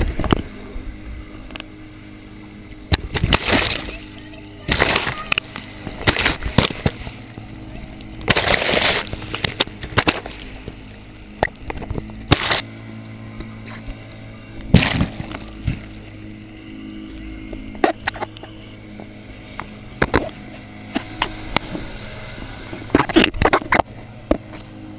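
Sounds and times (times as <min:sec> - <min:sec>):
sea water splashing: 0:00.0 - 0:24.7
outboard engine humming: 0:00.0 - 0:24.9.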